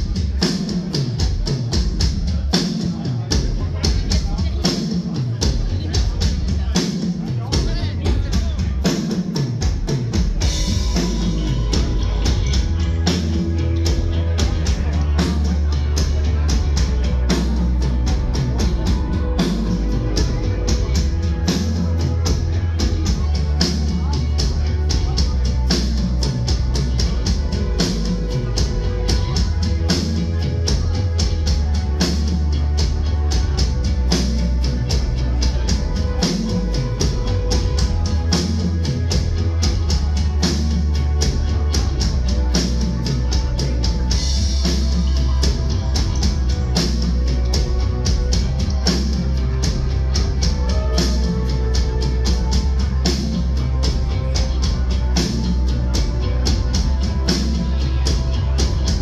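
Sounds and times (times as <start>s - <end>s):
bass line: 0.0s - 59.0s
guitar: 0.0s - 59.0s.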